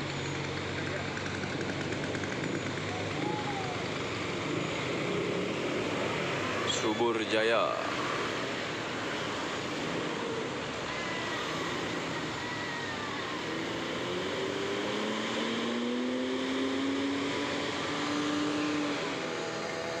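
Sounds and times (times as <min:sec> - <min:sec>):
diesel bus engine labouring: 0:00.0 - 0:20.0
road noise: 0:00.0 - 0:20.0.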